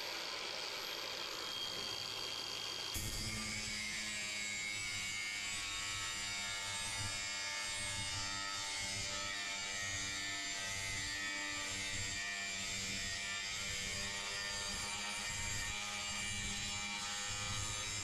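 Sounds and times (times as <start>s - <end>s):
angle grinder cutting steel: 0.0s - 18.0s.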